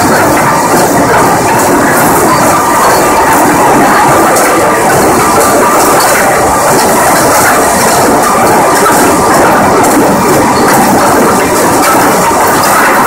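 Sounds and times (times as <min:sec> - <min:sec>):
transfer chains running: 0:00.0 - 0:13.0.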